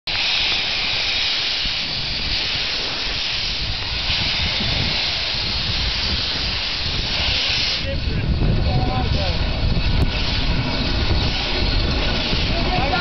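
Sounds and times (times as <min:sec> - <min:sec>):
steam locomotive hissing: 0:00.1 - 0:13.0.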